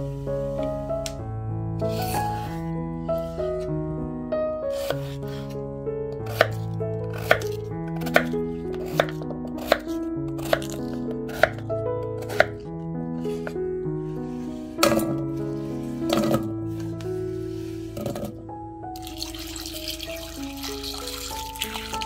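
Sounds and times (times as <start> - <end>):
background music with chords: 0.0 - 22.0.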